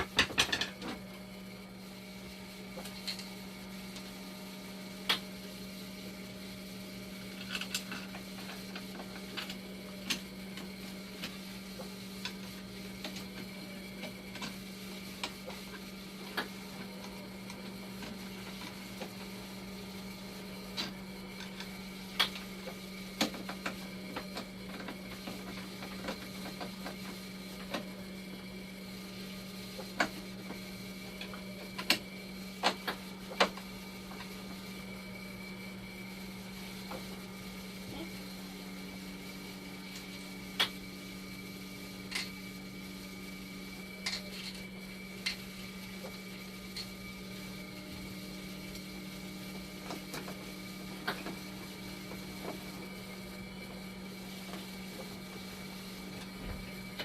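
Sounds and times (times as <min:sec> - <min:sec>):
machine humming with high whine: 0:00.0 - 0:57.0.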